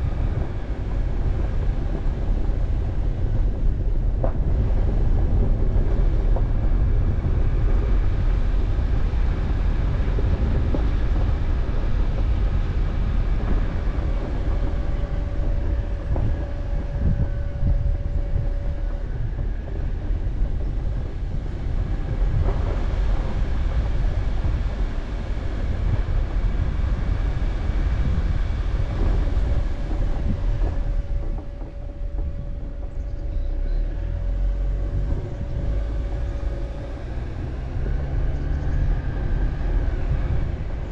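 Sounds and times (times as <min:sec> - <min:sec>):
thin steady whine: 0:00.0 - 0:40.9.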